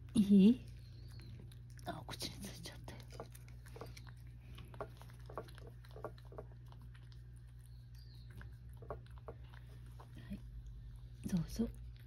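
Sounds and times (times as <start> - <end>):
faint low hum: 0.0 - 12.0
cat licking: 0.6 - 12.0.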